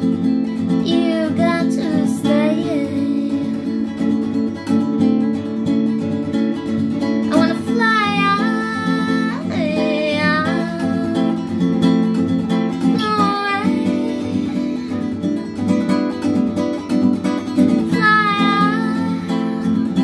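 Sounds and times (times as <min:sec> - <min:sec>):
acoustic guitar strumming: 0:00.0 - 0:20.0
woman singing: 0:00.6 - 0:04.6, 0:07.0 - 0:16.3, 0:17.1 - 0:20.0.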